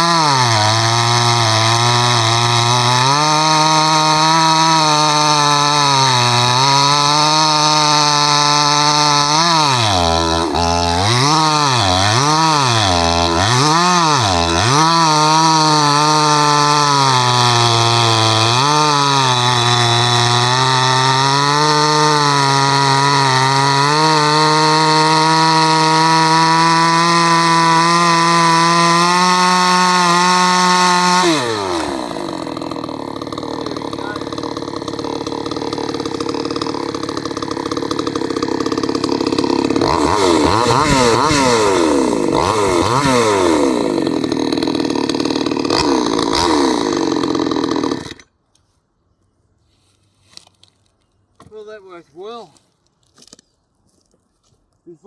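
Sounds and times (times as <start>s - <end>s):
chainsaw cutting timber: 0.0s - 48.4s.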